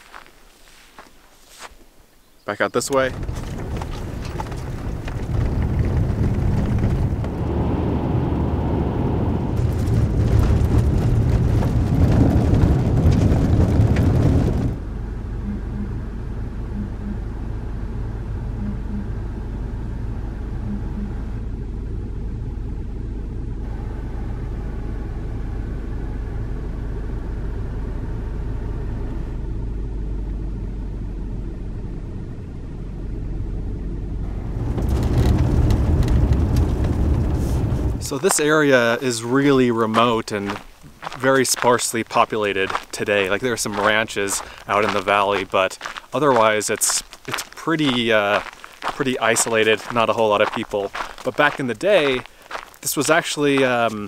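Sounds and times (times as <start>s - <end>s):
engine hum: 0.0s - 54.0s
road noise inside car: 2.8s - 54.0s.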